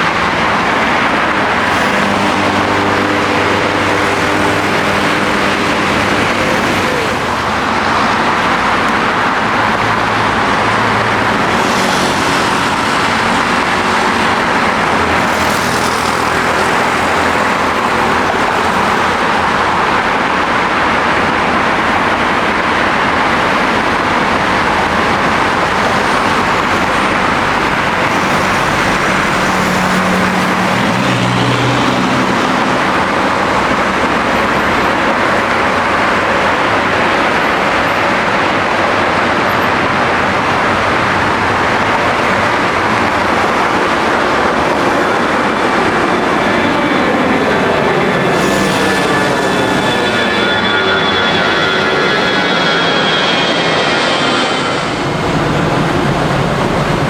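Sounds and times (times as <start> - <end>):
airliner engines running: 0.0 - 57.0.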